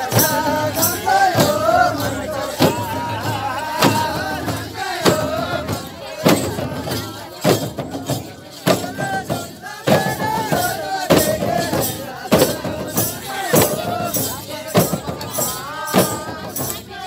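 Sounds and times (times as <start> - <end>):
drum steady beat: 0.0 - 17.0
folk singing: 0.0 - 17.0.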